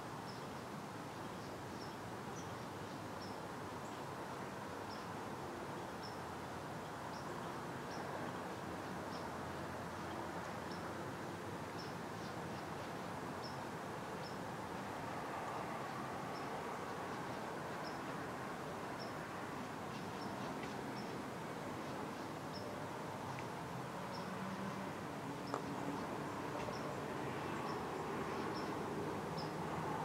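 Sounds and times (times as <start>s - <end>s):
hiss of quiet woods: 0.0s - 30.0s.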